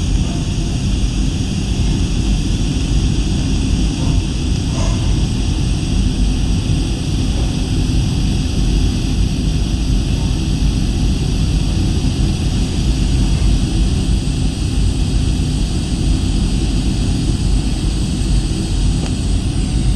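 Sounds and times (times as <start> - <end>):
high hiss: 0.0 - 19.9
machine rumble: 0.0 - 19.9.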